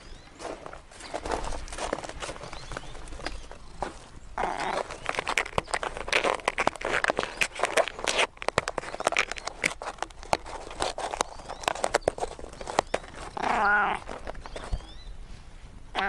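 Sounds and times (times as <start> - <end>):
clicks and rustles: 0.4 - 15.0.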